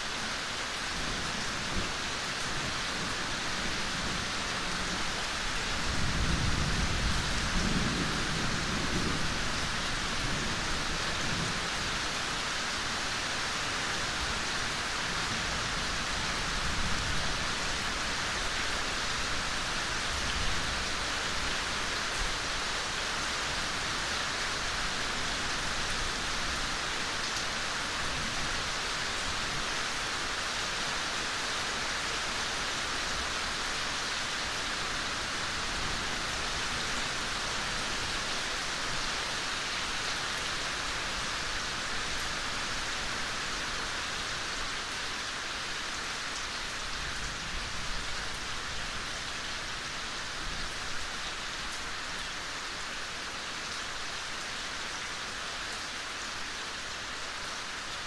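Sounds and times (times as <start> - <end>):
soft rain on leaves: 0.0 - 58.0.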